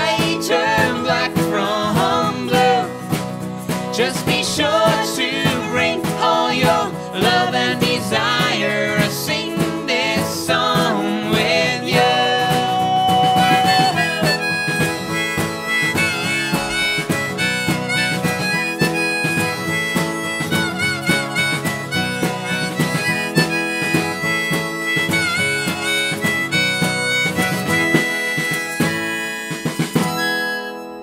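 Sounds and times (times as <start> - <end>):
harmonica bending notes: 0.0 - 31.0
strummed acoustic guitar: 0.0 - 31.0.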